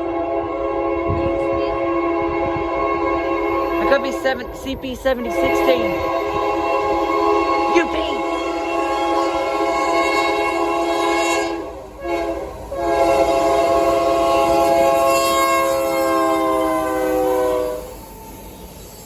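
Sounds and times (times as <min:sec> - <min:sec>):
locomotive air horn blasts: 0:00.0 - 0:18.0.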